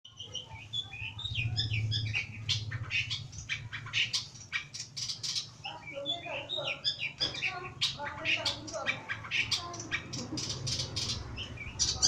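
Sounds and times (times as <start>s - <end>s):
bird singing chirps and scratchy notes: 0.0s - 12.0s.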